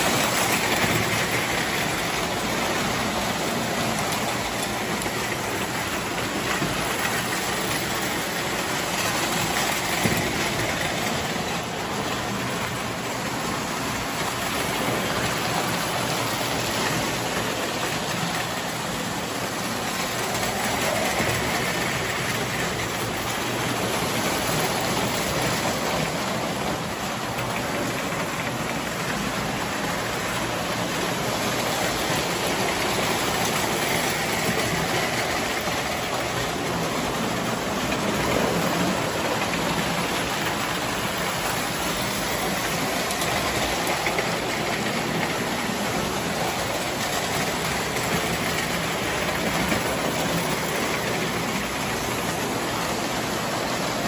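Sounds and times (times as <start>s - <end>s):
toy train motors whirring: 0.0s - 54.0s.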